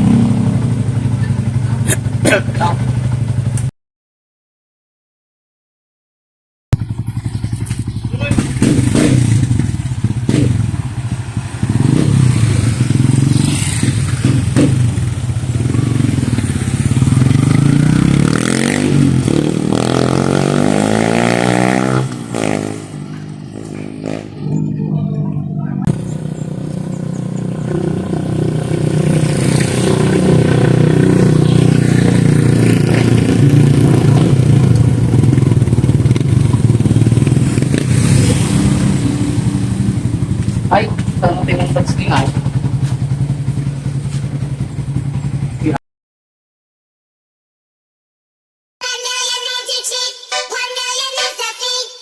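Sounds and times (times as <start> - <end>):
motorcycle engine running: 0.0 - 3.7, 6.7 - 45.8.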